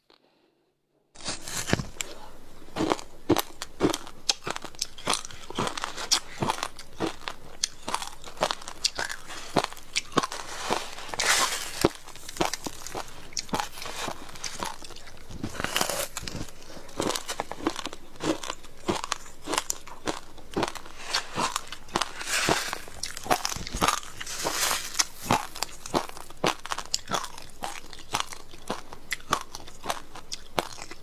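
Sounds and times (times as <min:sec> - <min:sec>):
chewing frozen ice crunching: 0:01.2 - 0:31.0.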